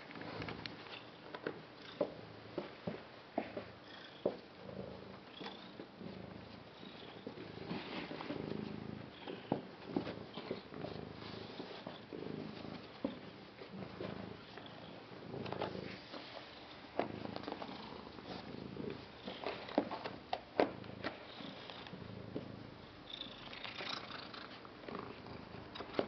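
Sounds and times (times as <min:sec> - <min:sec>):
cat purring: 0:01.8 - 0:26.0.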